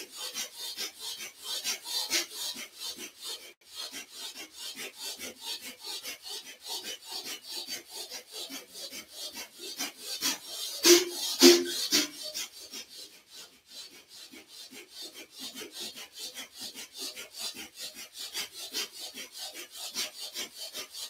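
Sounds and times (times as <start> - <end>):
rapid forceful nasal breathing: 0.2 - 20.9.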